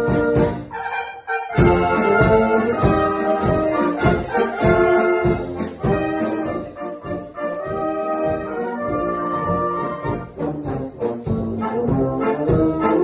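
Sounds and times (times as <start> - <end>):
brass band playing a polka: 0.0 - 13.0.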